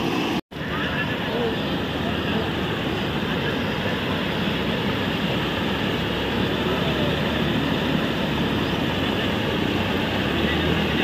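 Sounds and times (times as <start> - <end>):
floodwater rushing over road: 0.0 - 11.0.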